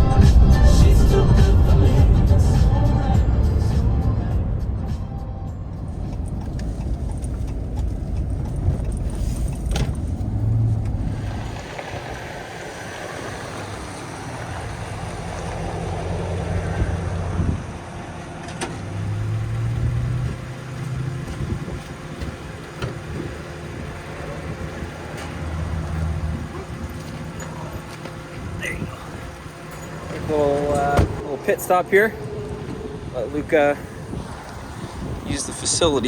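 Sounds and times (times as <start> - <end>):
truck engine and road noise: 0.0 - 36.0.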